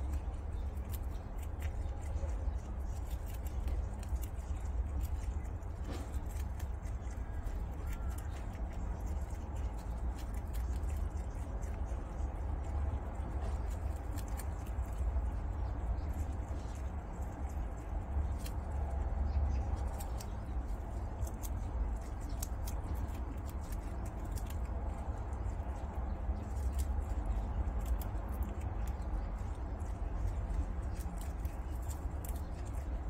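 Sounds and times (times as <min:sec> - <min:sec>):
prairie dogs chewing grass: 0:00.0 - 0:33.0
steady low hum: 0:00.0 - 0:33.0.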